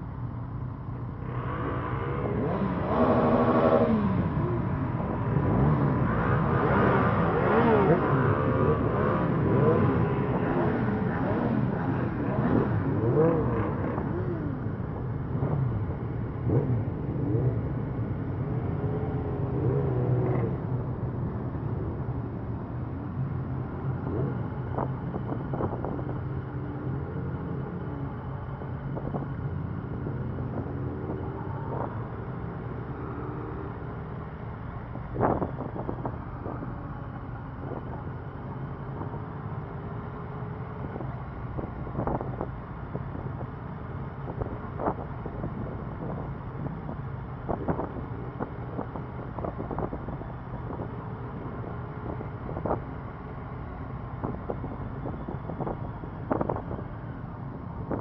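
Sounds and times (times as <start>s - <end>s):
wind noise on microphone: 1.2s - 58.0s.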